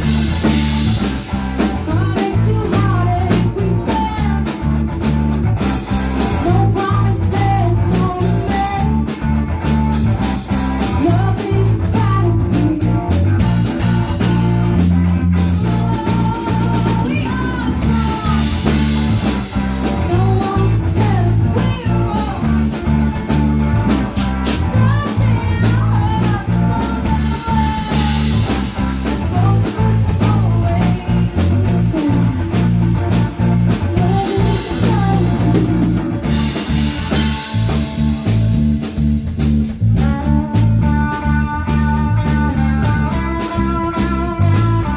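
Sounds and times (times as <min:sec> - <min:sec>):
electric guitar lead line: 0:00.0 - 0:44.9
rock band playing live: 0:00.0 - 0:44.9.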